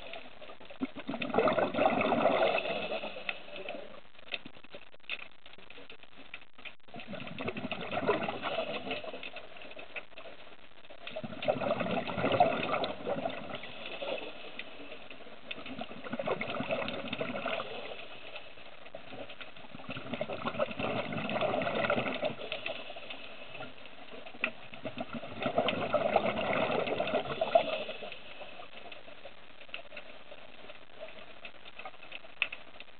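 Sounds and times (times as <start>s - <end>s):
underwater regulator bubbling: 0.0s - 32.6s
faint crackle: 0.0s - 32.9s.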